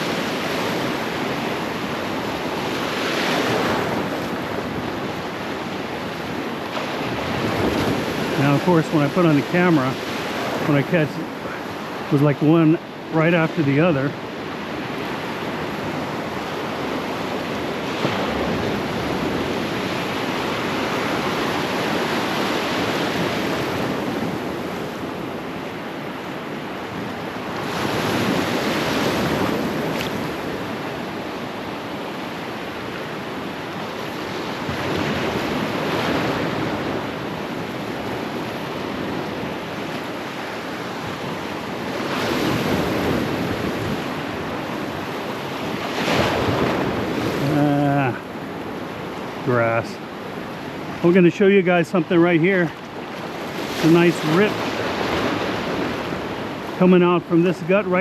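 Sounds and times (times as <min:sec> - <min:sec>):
wind rumbling on microphone: 0:00.0 - 0:56.9
ocean surf breaking: 0:00.0 - 0:58.0.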